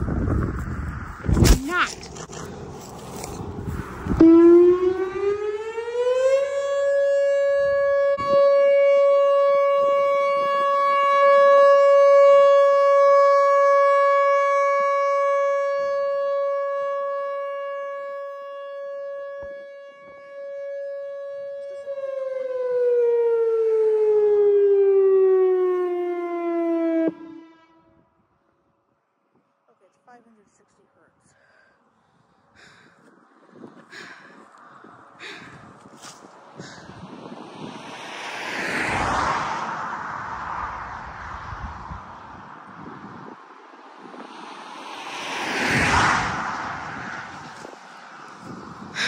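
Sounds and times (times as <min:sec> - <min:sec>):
rotating warning siren: 0:02.1 - 0:28.5, 0:33.2 - 0:49.0.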